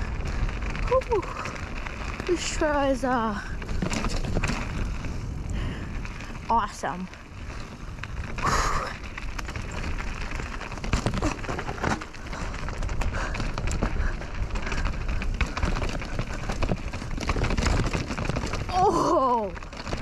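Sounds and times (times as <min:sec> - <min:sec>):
bike knocking and rattling: 0:00.0 - 0:20.0
tyres crunching over rocks: 0:00.0 - 0:20.0
wind on microphone: 0:00.0 - 0:20.0.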